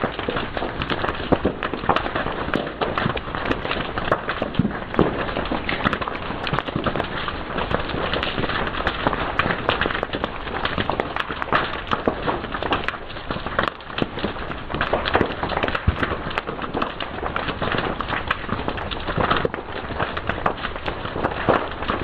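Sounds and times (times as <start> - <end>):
fire crackling with pops: 0.0 - 22.0.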